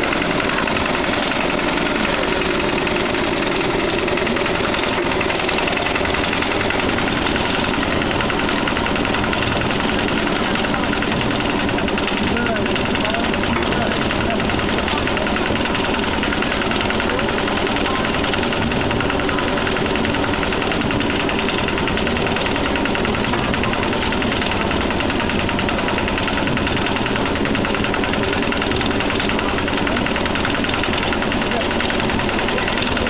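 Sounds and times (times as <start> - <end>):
small diesel engine knocking: 0.0 - 33.0.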